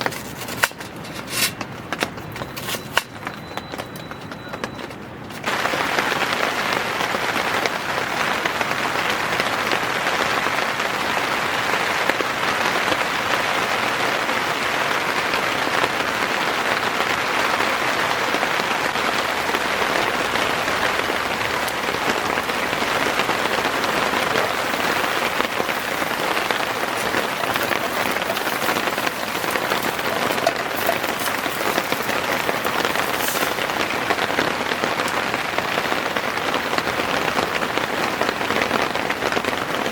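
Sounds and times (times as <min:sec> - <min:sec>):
heavy rain falling: 0:05.3 - 0:39.9.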